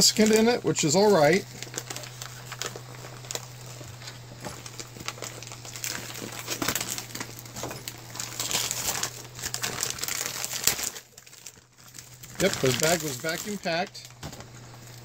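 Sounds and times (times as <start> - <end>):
plastic bag crinkling: 0.0 - 15.0
steady low hum: 0.0 - 15.0.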